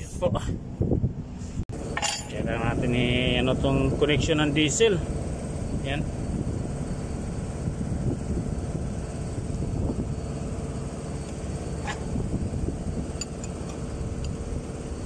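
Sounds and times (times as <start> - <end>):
low machine rumble: 0.0 - 15.0.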